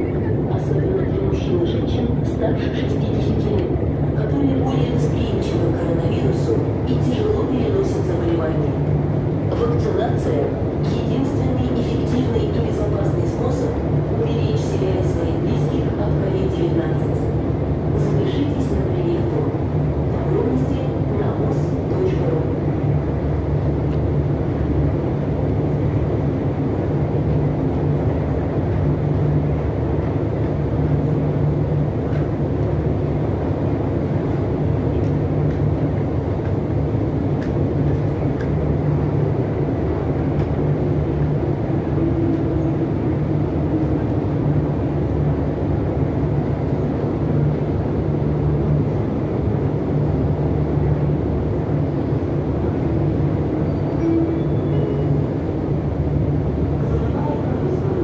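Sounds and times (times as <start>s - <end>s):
escalator machinery rumble: 0.0s - 58.0s.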